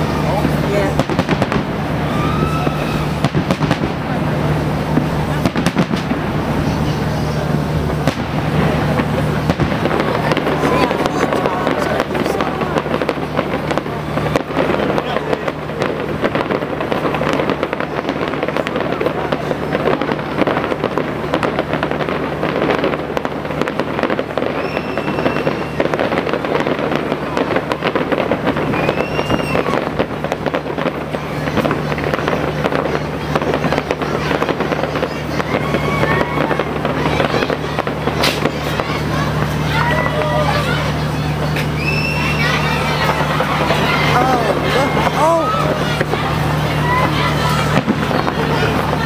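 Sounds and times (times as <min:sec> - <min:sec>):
fireworks crackling and popping: 0:00.0 - 0:49.0.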